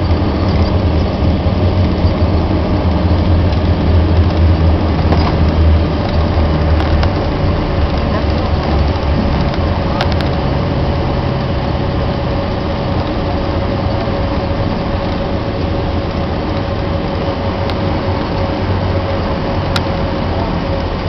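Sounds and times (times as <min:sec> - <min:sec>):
turboprop cabin drone: 0:00.0 - 0:21.0.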